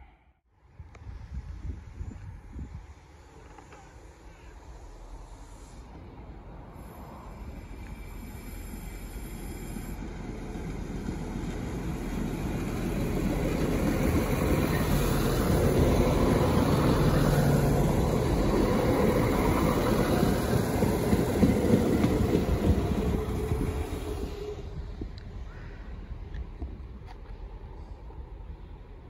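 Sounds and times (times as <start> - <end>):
train rumbling past: 1.2 - 29.0.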